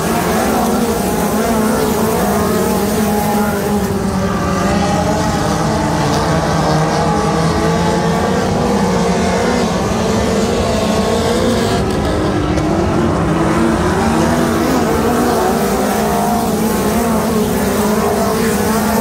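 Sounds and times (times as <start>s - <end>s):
race car engines racing: 0.0s - 19.0s.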